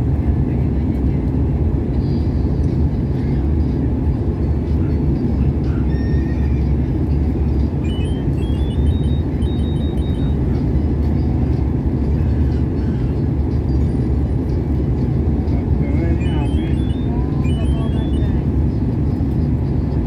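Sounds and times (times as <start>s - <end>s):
airliner engine rumble: 0.0s - 20.0s.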